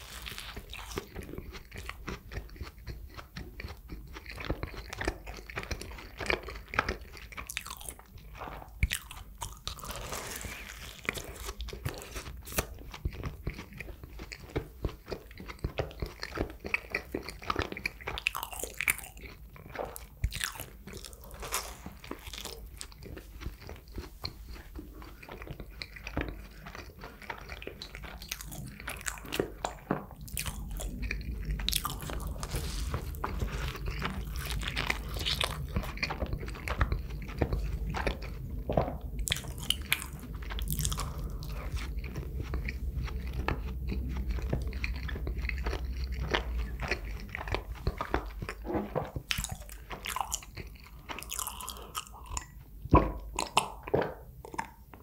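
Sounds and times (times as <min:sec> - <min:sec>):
person chewing: 0:00.0 - 0:55.0.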